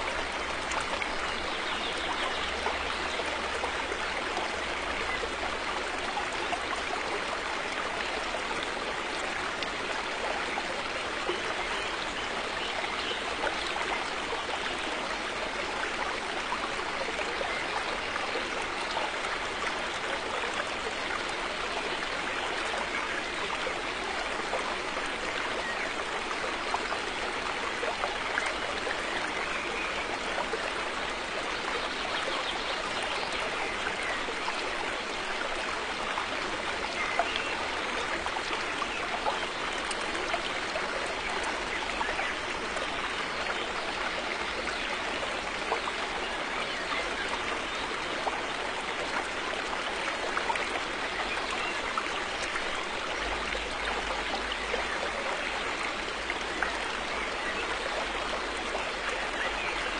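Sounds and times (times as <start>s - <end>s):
water splashes and trickles: 0.0s - 59.9s.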